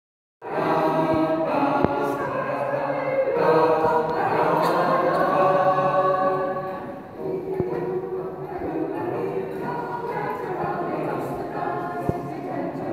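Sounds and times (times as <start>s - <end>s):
mixed choir singing unaccompanied: 0.4s - 12.9s.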